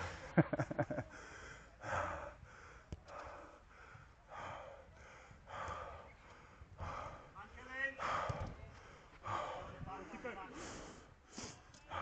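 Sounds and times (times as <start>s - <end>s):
heavy breathing: 1.0s - 12.0s.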